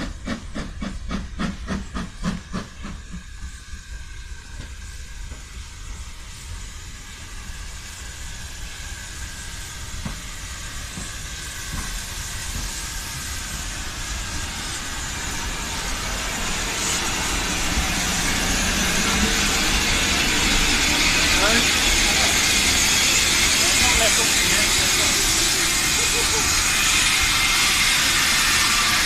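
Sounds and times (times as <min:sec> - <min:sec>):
steam hiss: 0:00.0 - 0:29.0
steam locomotives rolling in: 0:00.0 - 0:29.0.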